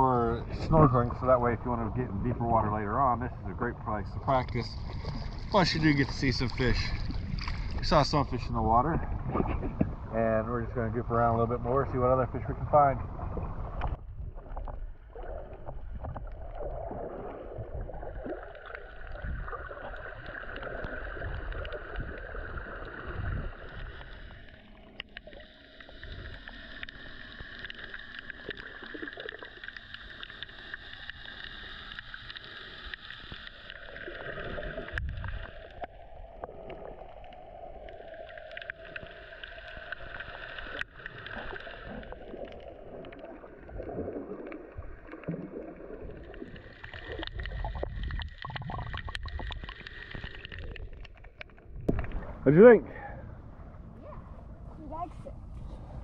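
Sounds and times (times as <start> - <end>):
water churning and gurgling underwater: 0.0 - 56.0.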